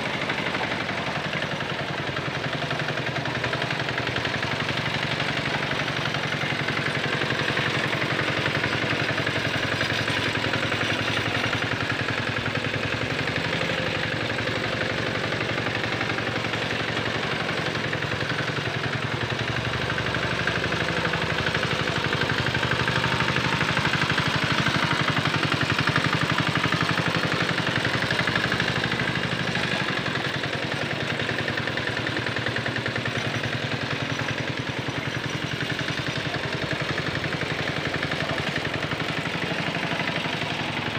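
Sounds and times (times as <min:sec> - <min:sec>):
small tractor engine chugging: 0:00.0 - 0:40.9.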